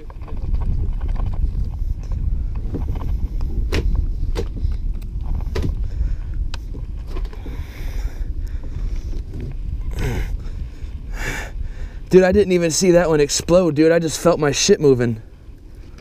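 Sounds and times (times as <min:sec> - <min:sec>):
wind on microphone: 0:00.0 - 0:14.4.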